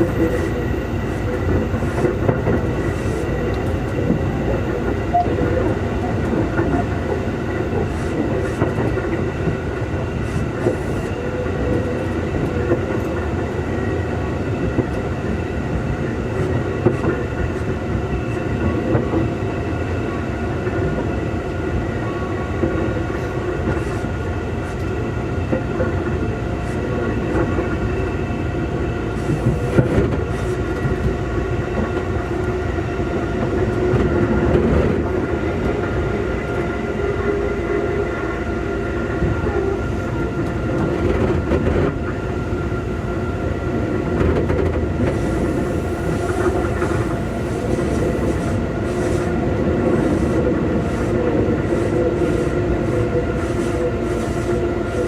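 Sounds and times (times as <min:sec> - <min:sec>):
clickety-clack of train: 0:00.0 - 0:55.0
train wheels rumbling on rail: 0:00.0 - 0:55.0.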